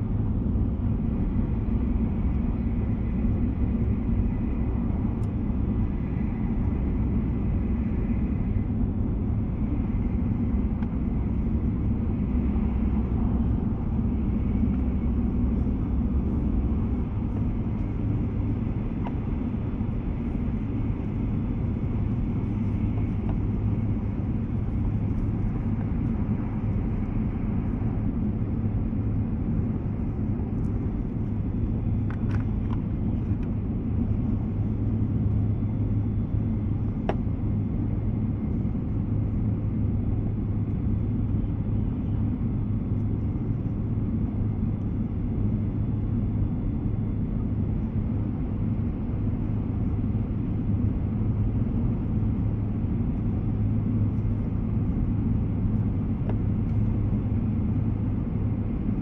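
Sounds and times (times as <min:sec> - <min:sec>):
deep rumble of train wheels: 0:00.0 - 0:59.0.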